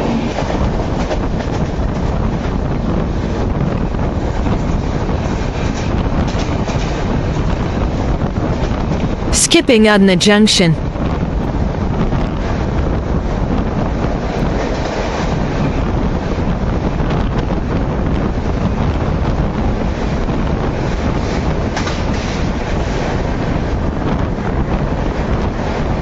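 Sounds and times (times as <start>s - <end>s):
train wheels rumbling on rails: 0.0s - 9.3s, 11.0s - 26.0s
wind rushing on microphone: 0.0s - 9.3s, 10.8s - 26.0s.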